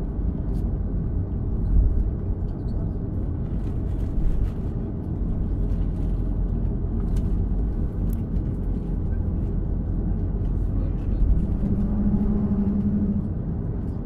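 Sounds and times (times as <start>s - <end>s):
jet engines low rumble: 0.0s - 14.0s.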